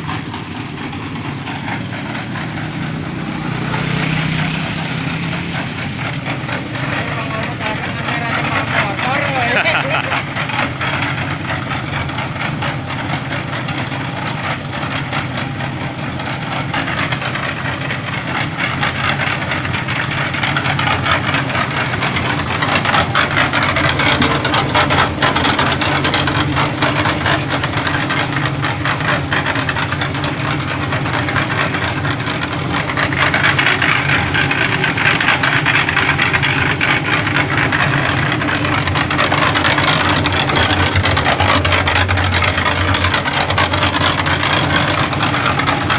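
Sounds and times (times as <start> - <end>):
small engine knocking rattle: 0.0 - 45.9.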